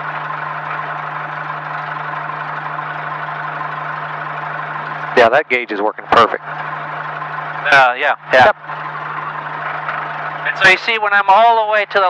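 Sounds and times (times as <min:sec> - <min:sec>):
light aircraft engine and propeller drone: 0:00.0 - 0:12.0.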